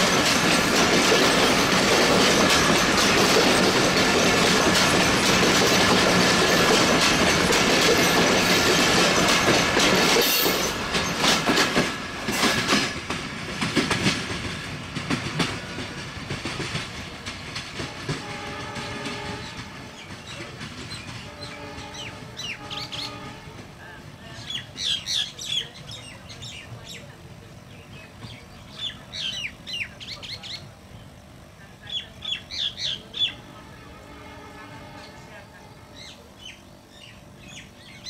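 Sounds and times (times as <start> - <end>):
train wheels clattering on rails: 0.0 - 30.6.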